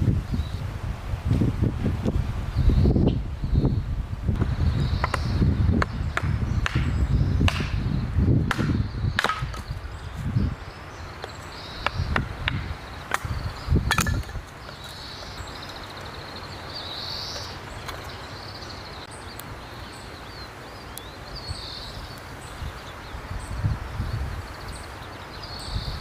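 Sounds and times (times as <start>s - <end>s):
wind rumbling on microphone: 0.0s - 26.0s
birds chirping trills: 2.4s - 26.0s.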